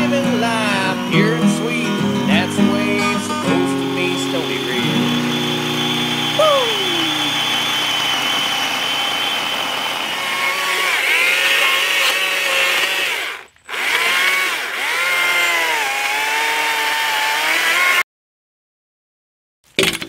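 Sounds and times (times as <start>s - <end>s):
chainsaw cutting log: 0.0s - 18.0s.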